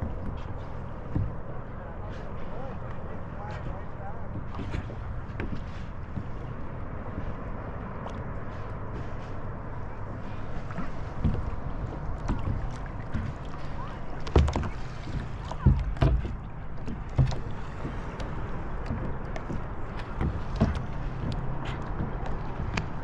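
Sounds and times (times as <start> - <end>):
water knocking against kayak hull: 0.0 - 9.2, 10.5 - 23.0
wind and water rushing: 0.0 - 23.0.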